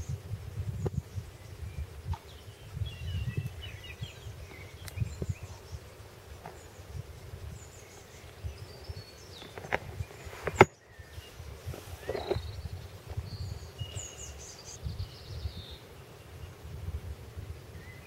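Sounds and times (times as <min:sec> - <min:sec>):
small birds chirping: 0:00.0 - 0:18.0
wind rumble on microphone: 0:00.0 - 0:18.0.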